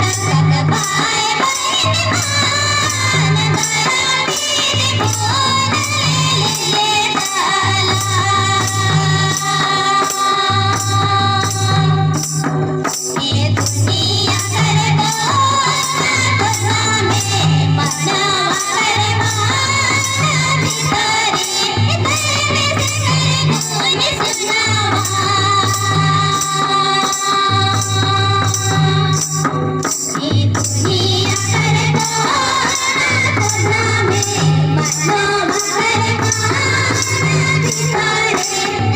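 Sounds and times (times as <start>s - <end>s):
woman singing: 0.0s - 38.9s.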